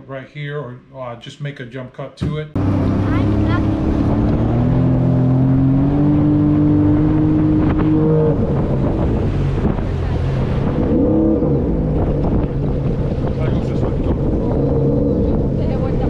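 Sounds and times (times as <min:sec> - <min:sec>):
jet ski engine running: 0:02.6 - 0:16.0
rushing wind: 0:02.6 - 0:16.0.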